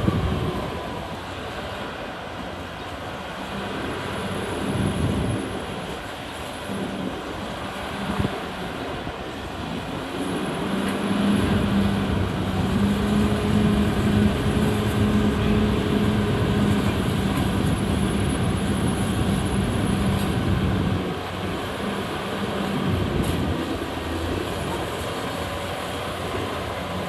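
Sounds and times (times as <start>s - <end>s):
bulldozer diesel engine: 0.0s - 27.0s.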